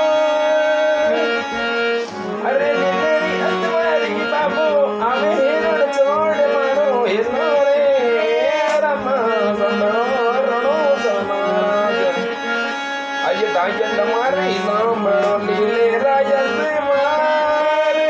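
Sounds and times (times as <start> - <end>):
held drone notes: 0.0 - 16.8
ornamented melody instrument: 0.0 - 18.0.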